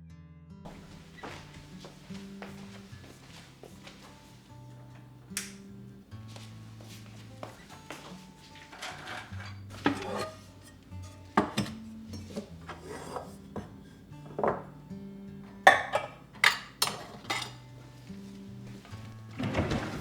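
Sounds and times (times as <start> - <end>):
soft background music: 0.7 - 20.0.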